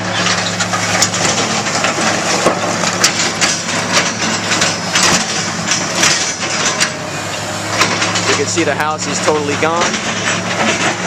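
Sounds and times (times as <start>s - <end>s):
concrete and brick crunching: 0.0s - 11.0s
excavator engine hum: 0.0s - 11.0s.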